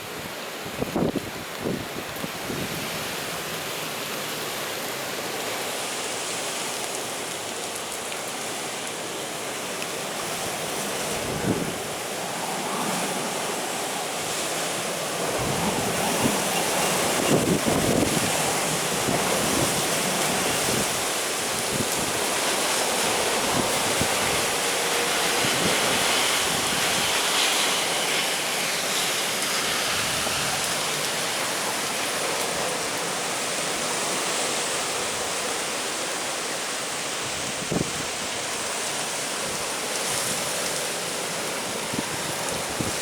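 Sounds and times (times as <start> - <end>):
heavy ocean surf: 0.0 - 43.0.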